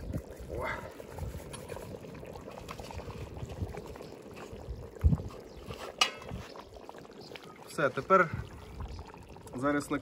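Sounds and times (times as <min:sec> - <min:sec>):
broth bubbling in a pot: 0:00.0 - 0:10.0.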